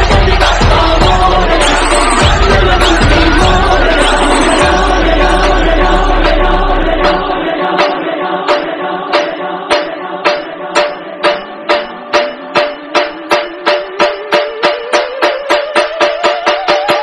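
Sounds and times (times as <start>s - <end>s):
choir-like chanted singing: 0.0s - 17.0s
steady percussive beat: 0.0s - 17.0s.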